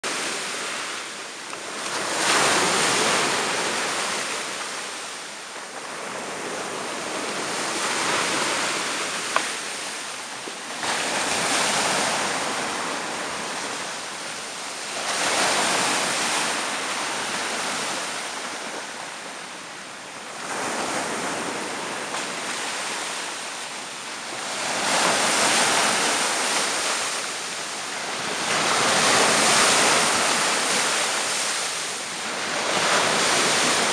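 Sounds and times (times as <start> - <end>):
icy surf washing on beach: 0.0 - 33.9.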